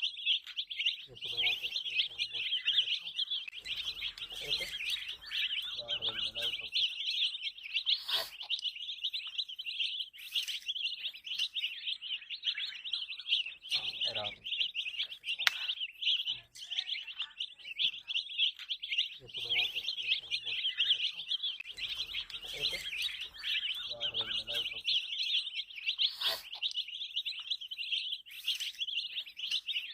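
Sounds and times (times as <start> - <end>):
baby chicks peeping: 0.0 - 29.9.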